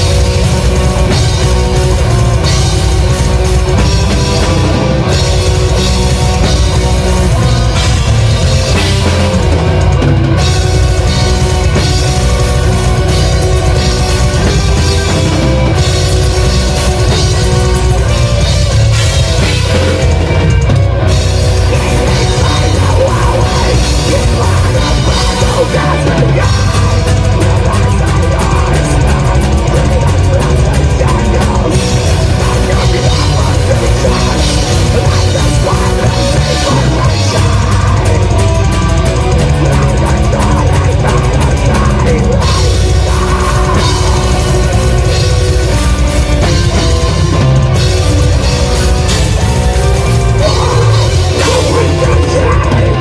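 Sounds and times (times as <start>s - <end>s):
distorted guitars: 0.0s - 53.0s
fast drumming with heavy bass drum: 0.0s - 53.0s.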